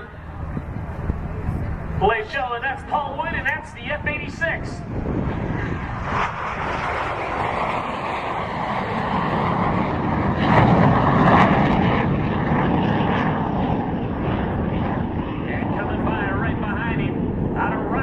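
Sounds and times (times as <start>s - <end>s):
jet engine roar passing: 0.0s - 18.0s.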